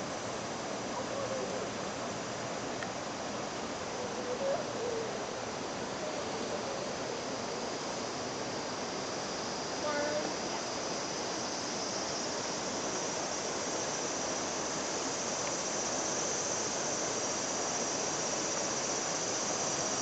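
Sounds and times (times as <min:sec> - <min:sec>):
river rushing over rocks: 0:00.0 - 0:20.0
thin high steady tone: 0:03.2 - 0:20.0.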